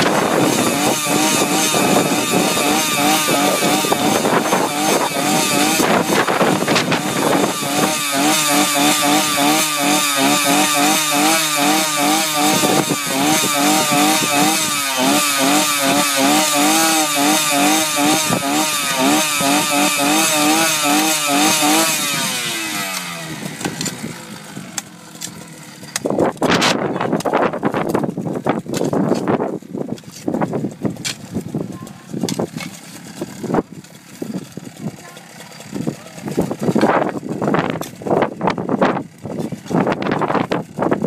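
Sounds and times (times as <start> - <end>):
small petrol engine revving: 0.0 - 41.0.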